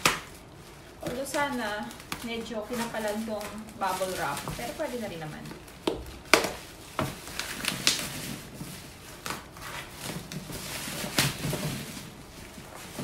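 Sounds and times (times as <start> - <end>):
plastic crinkling and rustling: 0.0 - 13.0
scissors snipping bubble wrap: 0.0 - 13.0.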